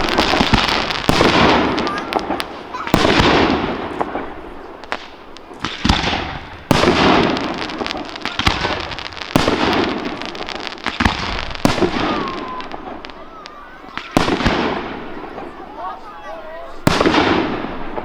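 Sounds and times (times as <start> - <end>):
fireworks bangs: 0.0 - 18.0
fireworks crackling and hissing: 0.0 - 18.0.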